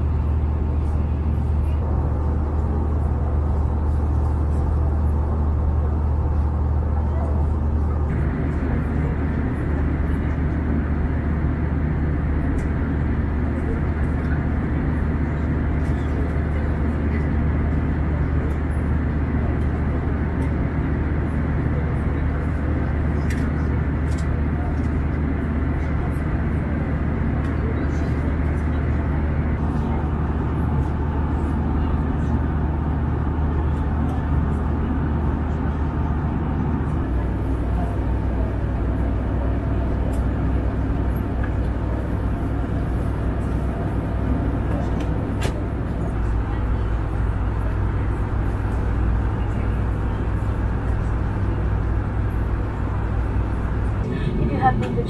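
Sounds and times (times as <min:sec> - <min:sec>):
constant low hum: 0:00.0 - 0:55.0
engine and airflow rush: 0:00.0 - 0:55.0.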